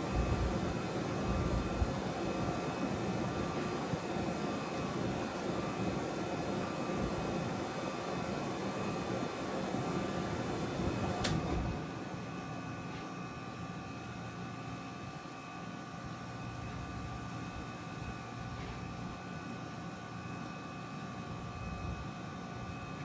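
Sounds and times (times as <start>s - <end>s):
heat pump humming whoosh: 0.0s - 23.0s.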